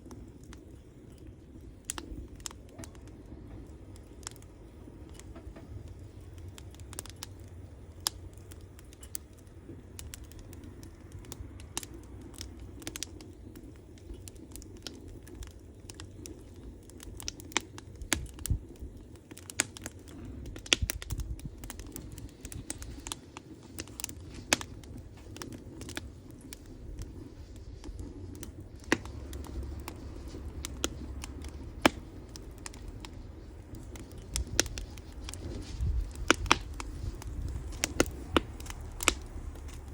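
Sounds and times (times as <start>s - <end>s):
burning wood popping: 0.0s - 39.9s
campfire crackling: 0.0s - 39.9s
low steady rumble: 0.0s - 39.9s.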